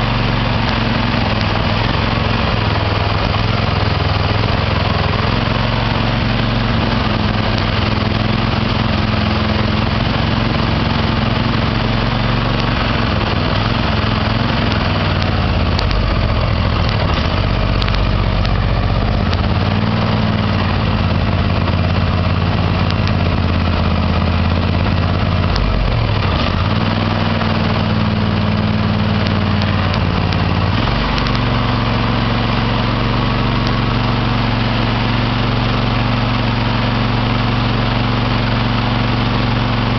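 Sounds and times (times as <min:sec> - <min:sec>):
mower engine idling unevenly: 0:00.0 - 0:39.9.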